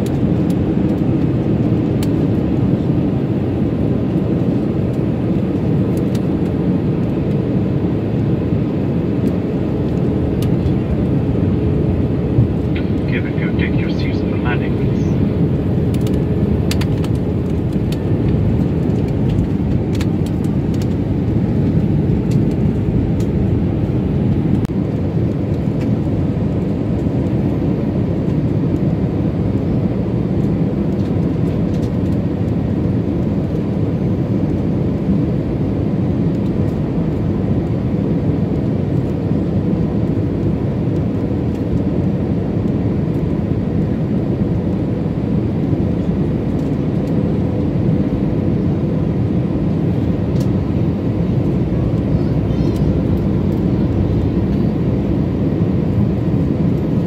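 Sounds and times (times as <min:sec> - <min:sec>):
airliner cabin engine roar: 0:00.0 - 0:57.0.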